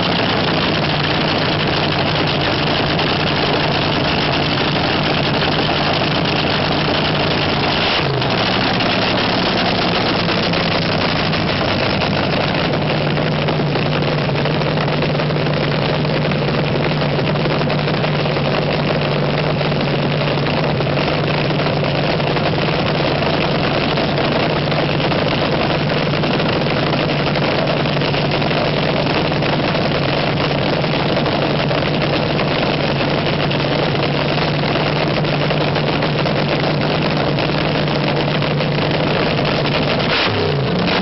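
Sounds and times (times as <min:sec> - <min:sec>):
dragster engine idling: 0:00.0 - 0:41.0.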